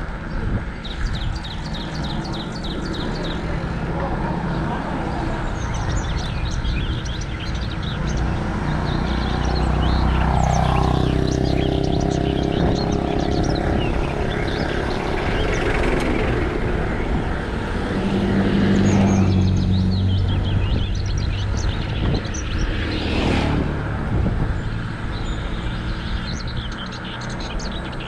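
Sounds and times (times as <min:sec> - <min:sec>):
tyres rumbling on road: 0:00.0 - 0:28.0
small birds chirping: 0:00.1 - 0:23.6, 0:24.4 - 0:28.0.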